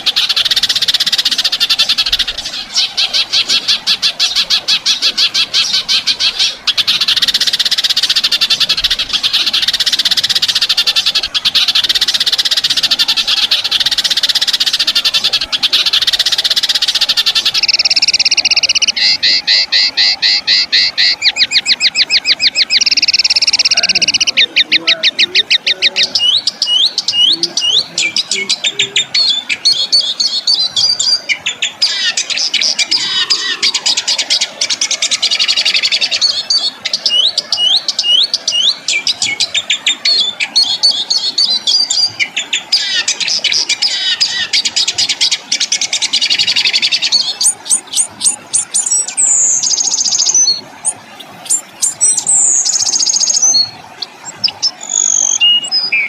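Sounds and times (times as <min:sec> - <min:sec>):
songbird singing harsh trills: 0:00.0 - 0:56.0.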